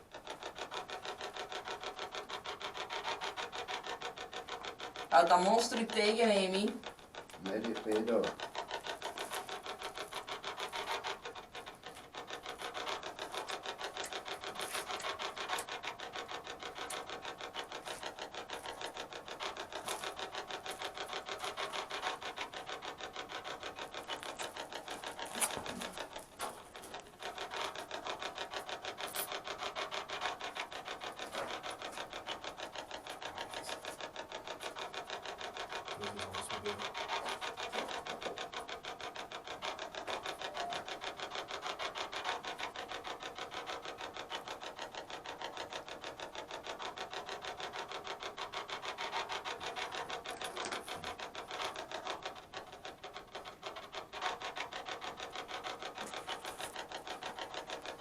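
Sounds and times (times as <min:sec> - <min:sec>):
fast even pulsing noise: 0:00.0 - 0:58.0.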